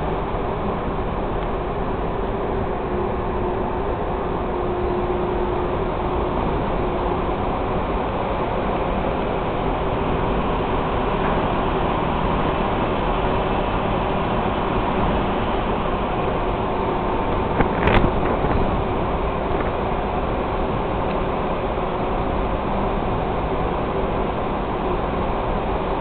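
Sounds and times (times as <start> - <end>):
ship engines rumbling: 0.0 - 26.0.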